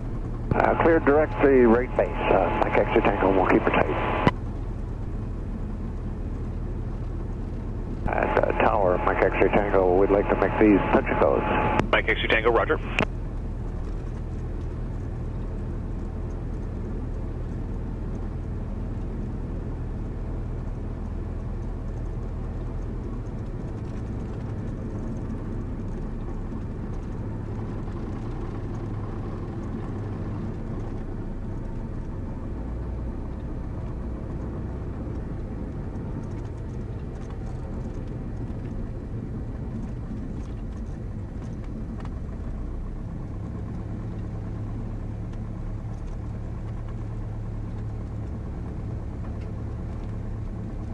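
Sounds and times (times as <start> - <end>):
small plane engine droning: 0.0 - 50.9.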